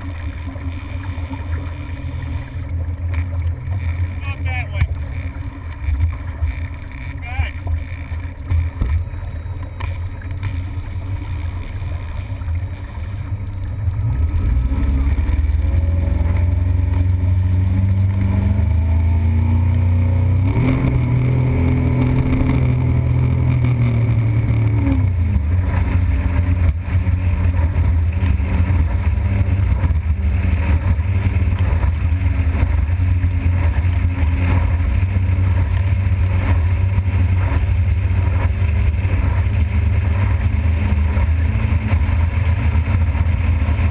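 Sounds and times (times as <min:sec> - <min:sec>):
motorboat engine: 0:00.0 - 0:43.9.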